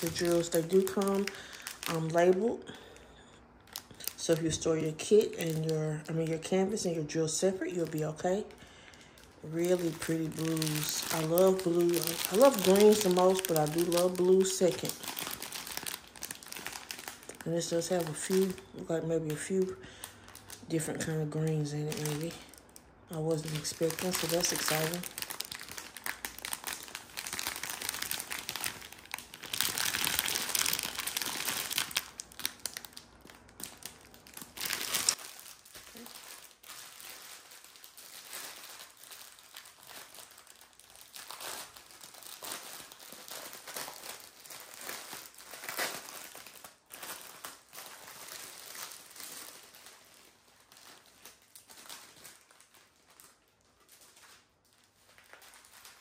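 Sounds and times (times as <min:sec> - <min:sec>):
plastic wrapping crinkling: 0:00.0 - 0:56.0.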